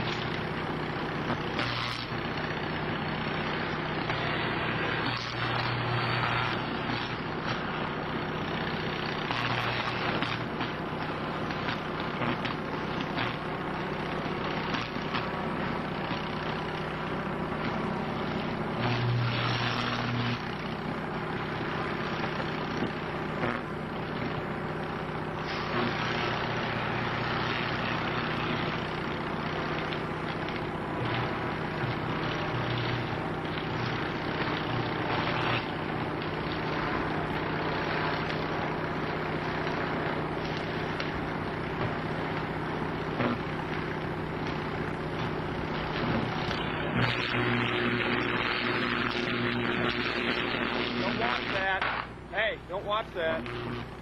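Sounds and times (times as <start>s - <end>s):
power line electrical buzz crackling: 0.0s - 54.0s.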